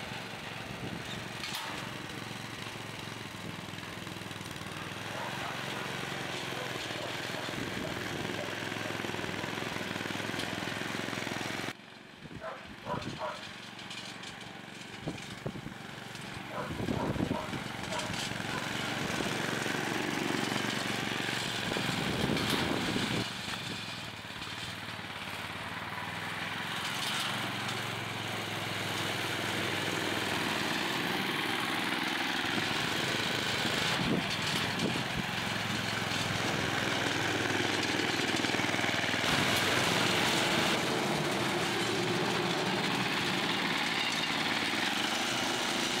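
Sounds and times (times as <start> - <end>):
small petrol engine running: 0.0 - 46.0.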